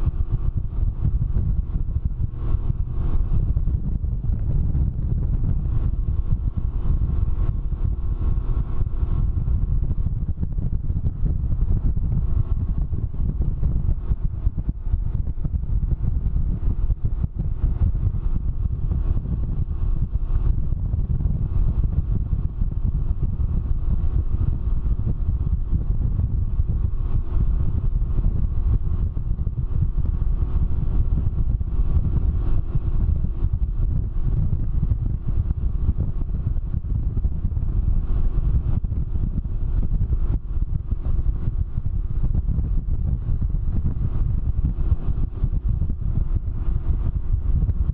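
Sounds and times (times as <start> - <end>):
three-wheeler engine drone: 0.0 - 47.9
wind rumble on microphone: 0.0 - 47.9.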